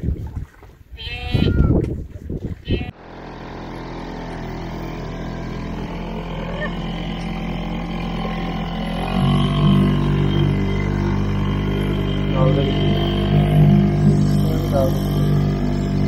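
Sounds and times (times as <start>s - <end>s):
outboard motor running: 1.4s - 16.0s.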